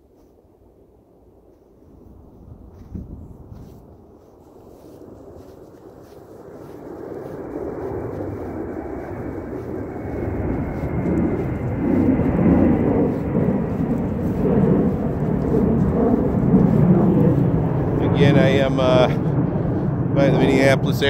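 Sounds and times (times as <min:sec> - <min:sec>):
aircraft rumble overhead: 0:00.0 - 0:21.0.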